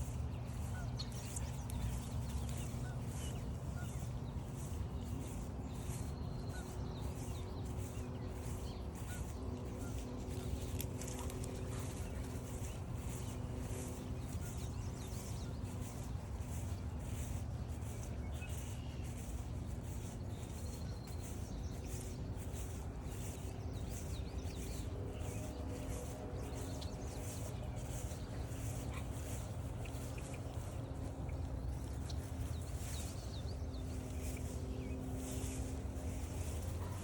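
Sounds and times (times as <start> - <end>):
footsteps swishing through grass: 0.0 - 37.0.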